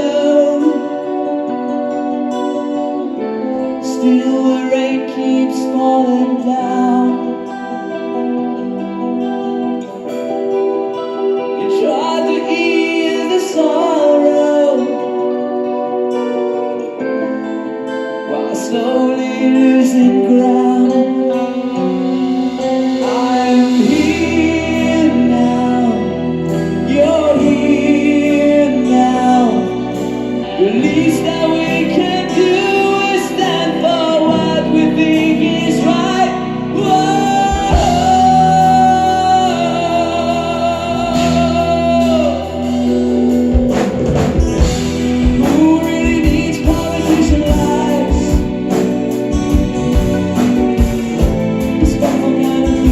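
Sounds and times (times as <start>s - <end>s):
keyboard and guitar chords: 0.0s - 52.9s
melodic lead line: 0.0s - 52.9s.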